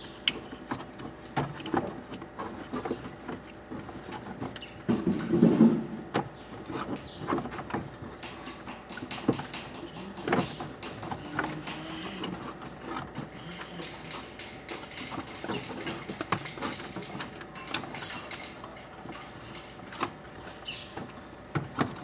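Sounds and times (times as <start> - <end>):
hand tools clicking and knocking: 4.1 - 22.0.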